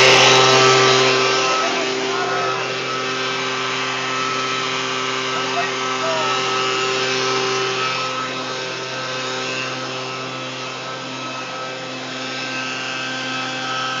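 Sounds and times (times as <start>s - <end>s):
leaf blower engine running: 0.0s - 14.0s.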